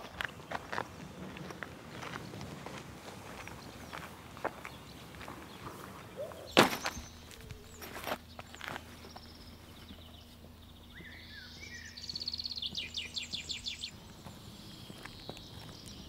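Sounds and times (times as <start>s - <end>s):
faint outdoor background noise: 0.0s - 16.0s
songbird singing: 0.0s - 16.0s.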